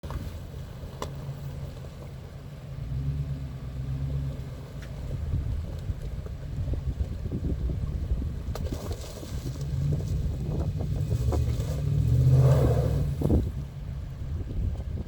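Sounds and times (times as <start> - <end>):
truck engine humming: 0.0 - 8.6, 9.4 - 15.0.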